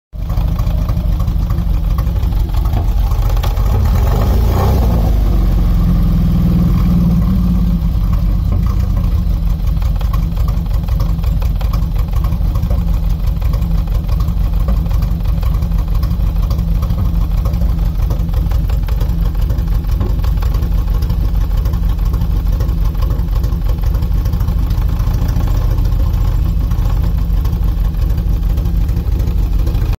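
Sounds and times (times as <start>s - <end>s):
engine running with misfire: 0.2s - 30.0s.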